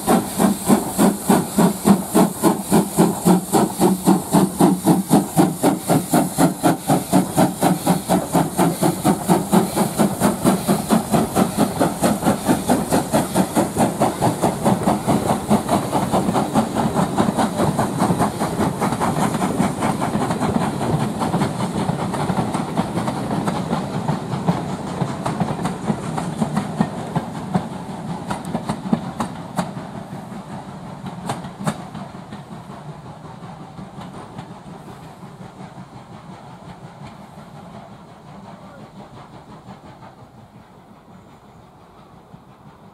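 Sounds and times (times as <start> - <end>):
steam locomotive exhaust beats: 0.0 - 42.9.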